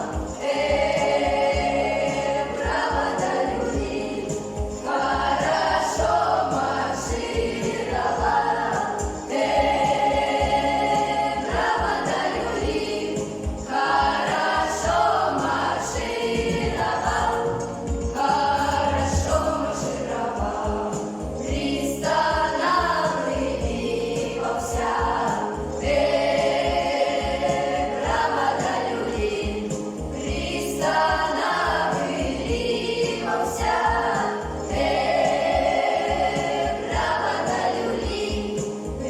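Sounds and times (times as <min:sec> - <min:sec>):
children's choir singing: 0:00.0 - 0:39.0.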